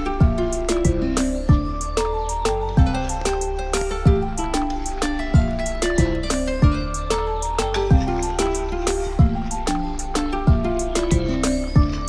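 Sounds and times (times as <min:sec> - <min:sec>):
music with steady beat: 0:00.0 - 0:12.0
ticking cymbals: 0:00.0 - 0:12.0.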